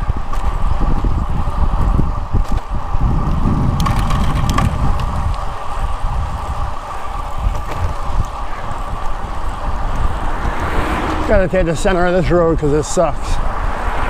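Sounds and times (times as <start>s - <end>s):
bike tyres rolling hum: 0.0s - 14.0s
wind buffeting microphone: 0.0s - 14.0s.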